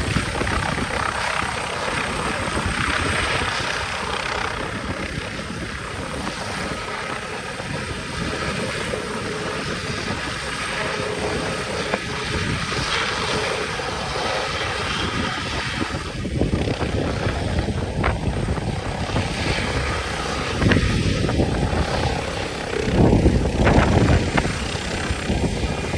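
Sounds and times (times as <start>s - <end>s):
helicopter rotor and turbine engines: 0.0s - 25.9s.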